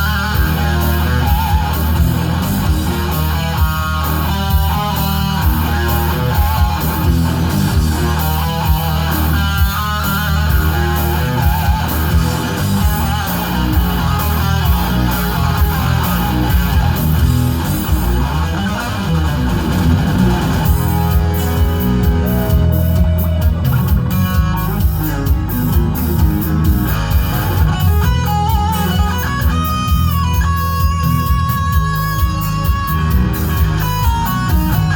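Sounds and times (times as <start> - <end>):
bass guitar: 0.0 - 34.9
fast electric guitar lead: 0.0 - 34.9.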